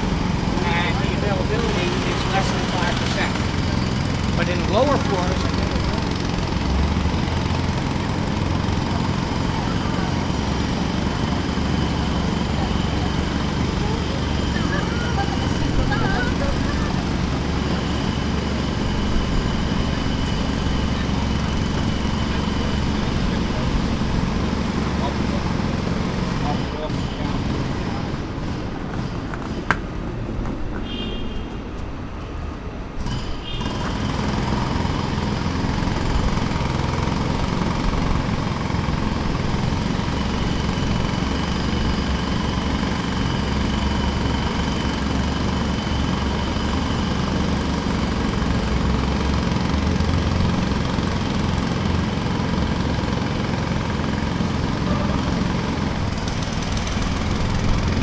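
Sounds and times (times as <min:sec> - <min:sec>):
jackhammer hammering: 0:00.0 - 0:30.0, 0:33.0 - 0:58.0.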